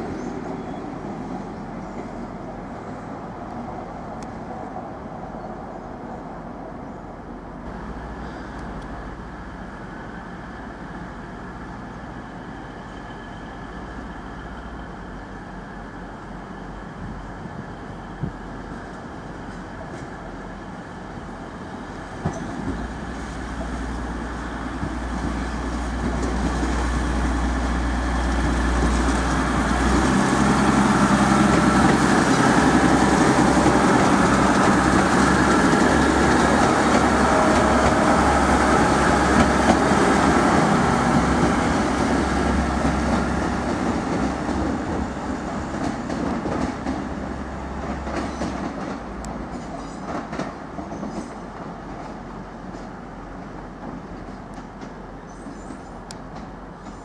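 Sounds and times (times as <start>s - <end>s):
train wheels on rails: 0.0s - 5.3s, 7.7s - 57.0s
diesel train passing: 0.0s - 57.0s.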